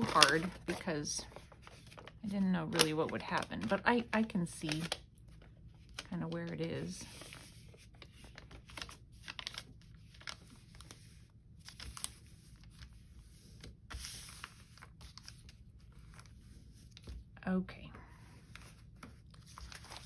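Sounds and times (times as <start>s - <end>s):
paper rustling and crinkling: 0.0s - 17.3s, 18.3s - 20.0s.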